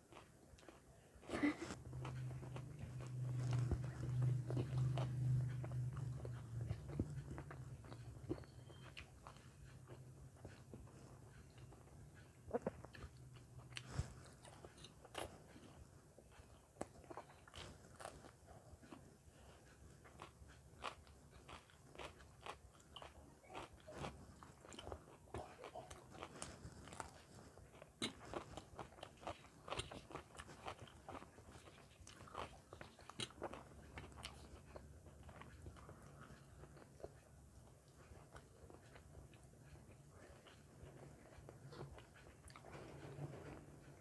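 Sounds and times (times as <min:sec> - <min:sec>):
wet chewing and mouth clicks: 0:00.0 - 0:44.0.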